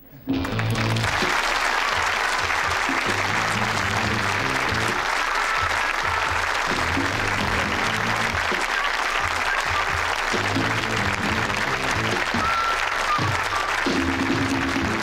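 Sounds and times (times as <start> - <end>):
audience applause: 0.3 - 15.0
instrumental theme music: 0.3 - 15.0.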